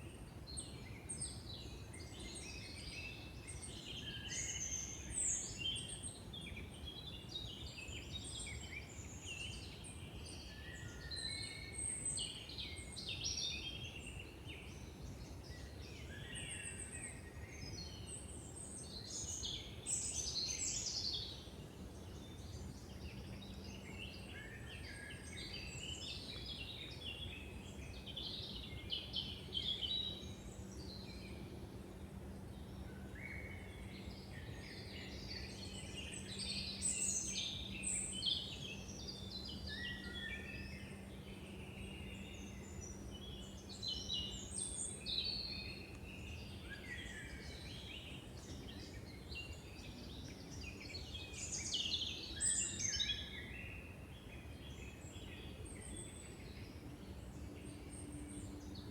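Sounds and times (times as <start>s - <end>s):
woodland birds chirping and trilling: 0.3s - 58.9s.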